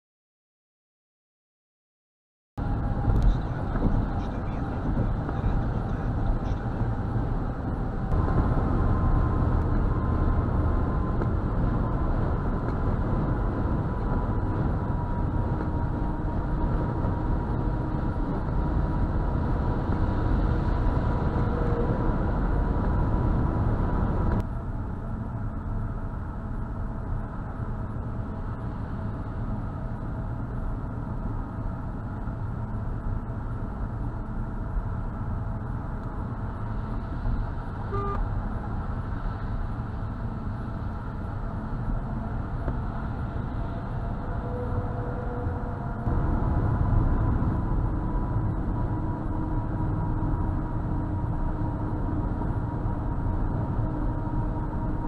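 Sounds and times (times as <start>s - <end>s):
car road and engine rumble: 2.6s - 55.0s.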